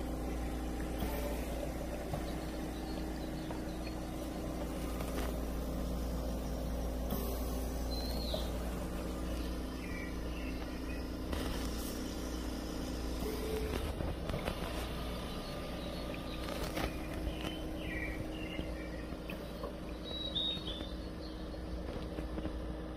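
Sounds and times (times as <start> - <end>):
oxygen concentrator compressor hum: 0.0 - 22.9.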